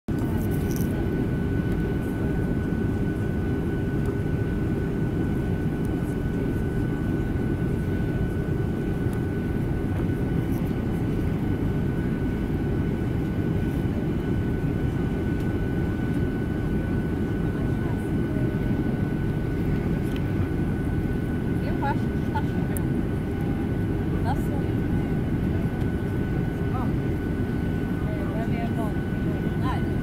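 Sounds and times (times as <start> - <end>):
jet engine cabin rumble: 0.1 - 30.0.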